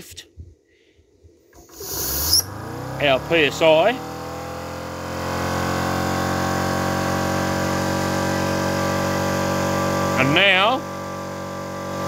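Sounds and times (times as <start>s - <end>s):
air compressor running: 1.6s - 12.0s.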